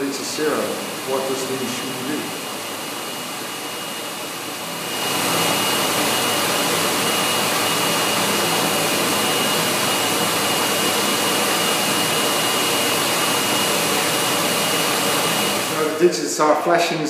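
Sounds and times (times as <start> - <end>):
electric hand dryer blowing: 0.0 - 16.8.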